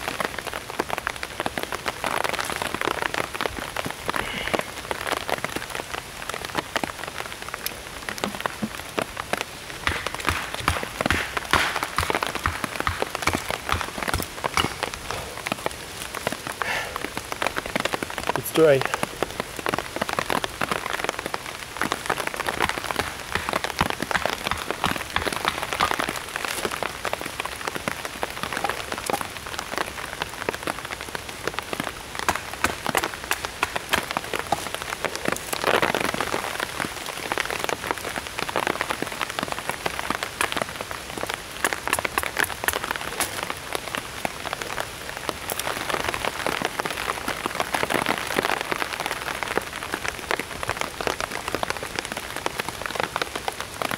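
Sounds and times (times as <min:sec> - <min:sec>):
rain pattering on plastic sheet: 0:00.0 - 0:53.9.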